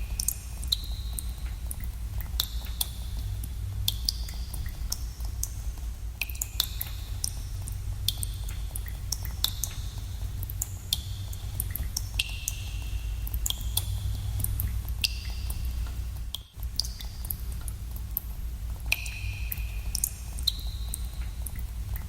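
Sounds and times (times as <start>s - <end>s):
steady low rumble: 0.0s - 22.0s
water drops dripping in cave: 0.0s - 22.0s.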